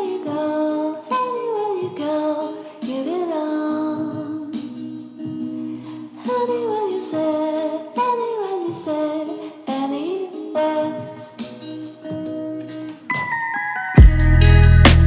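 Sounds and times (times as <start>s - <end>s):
person singing a song: 0.0s - 15.0s.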